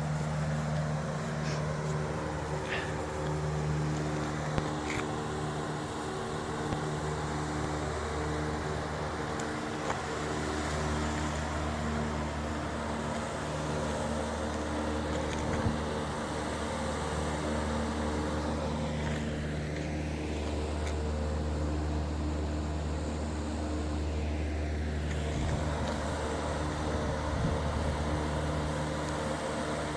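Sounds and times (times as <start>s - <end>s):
mechanical drone: 0.0s - 29.9s.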